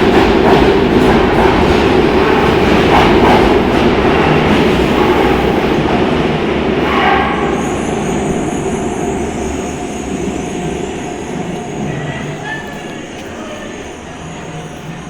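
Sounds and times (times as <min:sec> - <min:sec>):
electric train rolling on track: 0:00.0 - 0:15.0.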